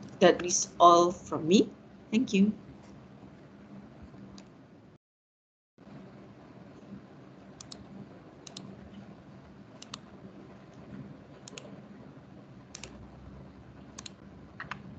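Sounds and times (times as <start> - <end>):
faint steady hum: 0.0 - 5.0, 5.8 - 14.9.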